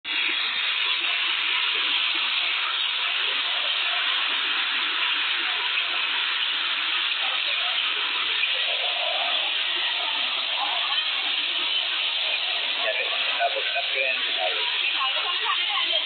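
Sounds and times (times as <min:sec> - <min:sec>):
rain falling: 0:00.0 - 0:16.0
river rushing: 0:00.1 - 0:16.0.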